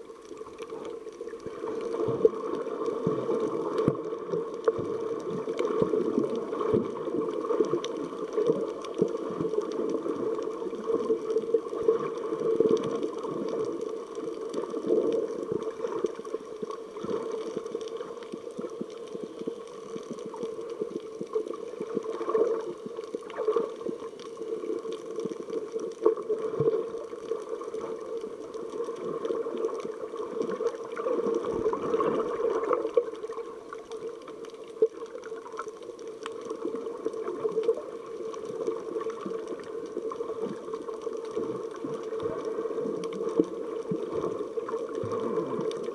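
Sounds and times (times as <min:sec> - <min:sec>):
muffled underwater rushing and bubbling: 0:00.0 - 0:45.9
small crackles and knocks: 0:00.0 - 0:45.9.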